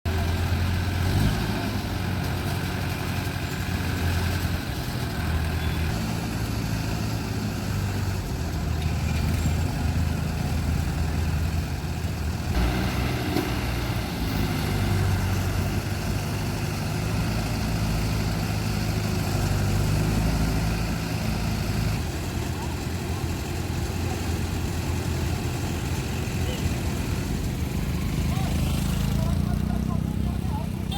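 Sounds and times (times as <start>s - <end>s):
diesel truck engine idling: 0.1s - 30.9s.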